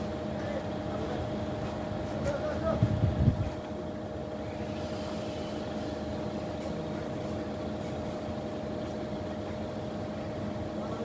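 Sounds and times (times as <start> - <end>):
forklift humming and whining: 0.0 - 11.0.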